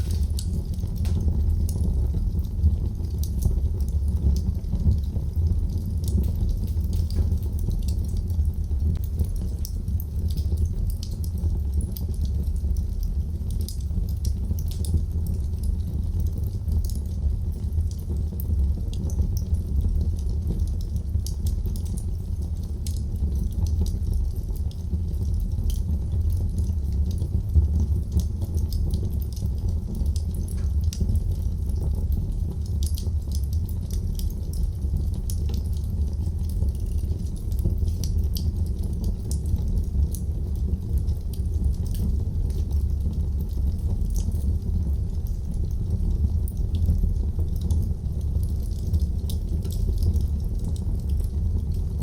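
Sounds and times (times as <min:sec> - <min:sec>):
fire crackling and popping: 0:00.0 - 0:52.0
fire rumbling: 0:00.0 - 0:52.0.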